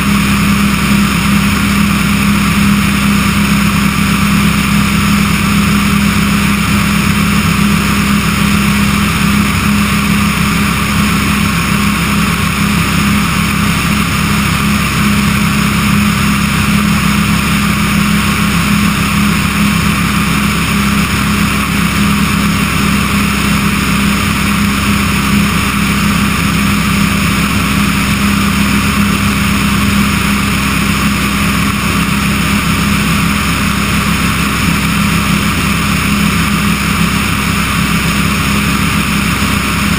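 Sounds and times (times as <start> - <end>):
propeller engine drone: 0.0 - 39.9.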